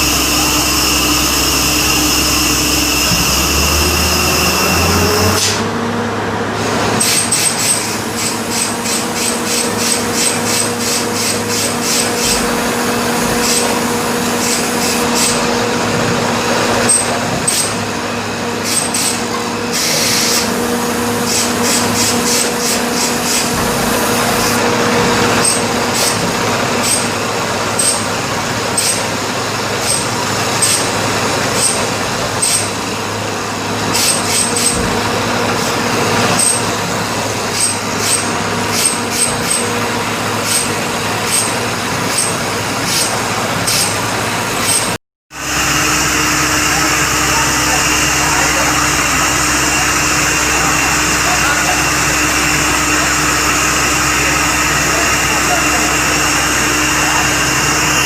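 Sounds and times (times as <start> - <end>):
drilling rig machine drone: 0.0 - 58.0.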